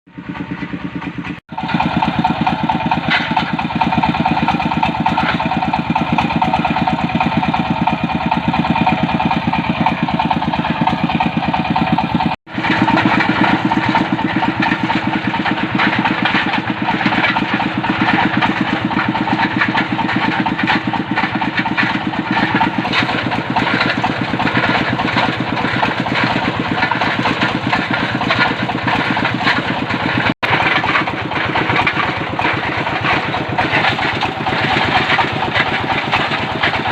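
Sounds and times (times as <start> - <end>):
diesel engine running steadily: 0.1 - 36.9.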